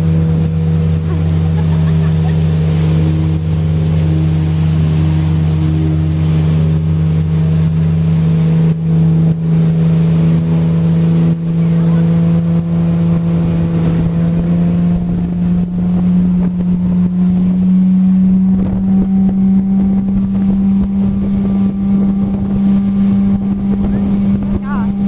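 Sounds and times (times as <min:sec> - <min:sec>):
motorboat engine droning: 0:00.0 - 0:25.0
wind buffeting microphone: 0:00.0 - 0:25.0.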